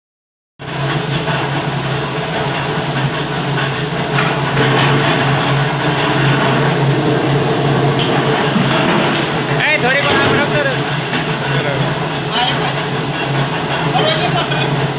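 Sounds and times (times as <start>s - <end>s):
power press humming: 1.3s - 14.9s.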